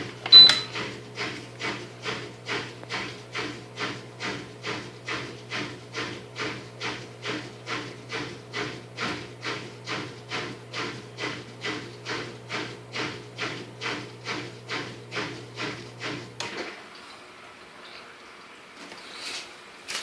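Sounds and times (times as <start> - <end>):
pump humming: 0.0 - 17.0.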